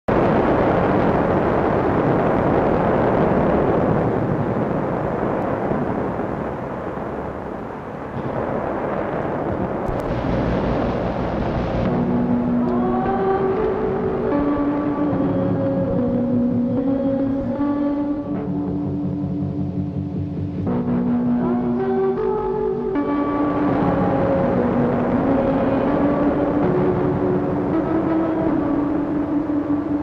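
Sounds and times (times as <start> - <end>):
long held notes: 0.1 - 30.0
rushing wash of noise: 0.1 - 30.0.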